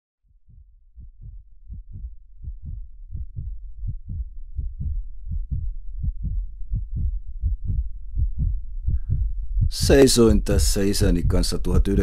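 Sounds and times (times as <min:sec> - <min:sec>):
heartbeat thumps: 0:00.3 - 0:12.0.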